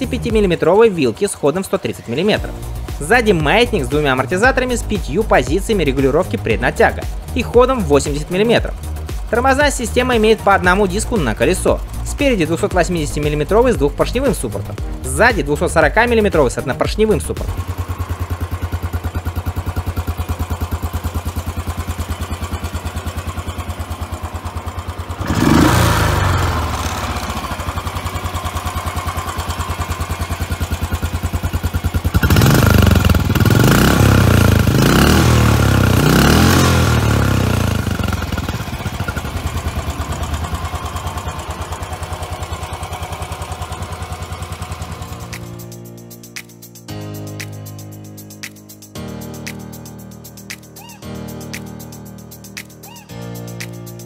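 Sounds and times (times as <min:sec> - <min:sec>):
motorcycle engine idling and revving: 0:00.0 - 0:50.7.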